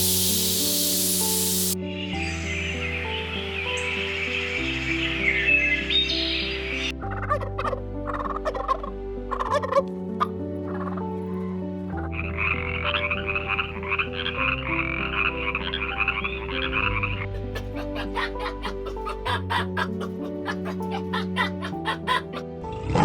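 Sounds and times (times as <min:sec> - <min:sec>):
soft background music: 0:00.0 - 0:23.0
animal calls: 0:02.7 - 0:11.2, 0:12.0 - 0:22.5.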